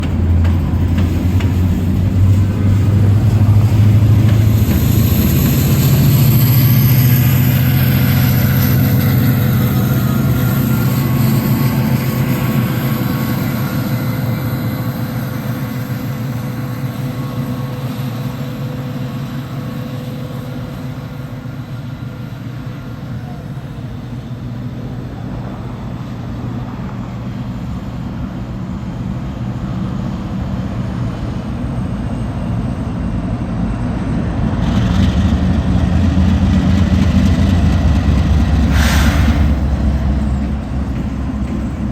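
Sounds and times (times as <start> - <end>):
diesel locomotive engine running: 0.0 - 41.9.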